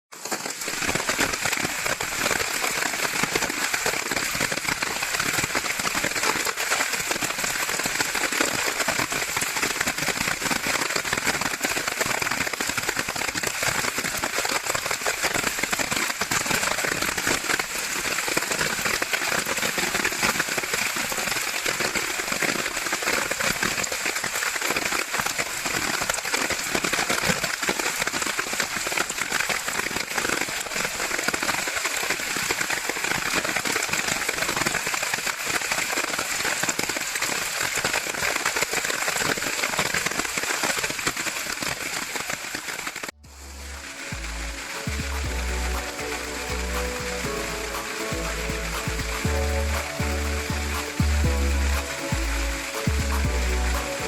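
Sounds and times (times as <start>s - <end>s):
gushing water: 0.1s - 54.0s
heavy rain: 0.1s - 54.0s.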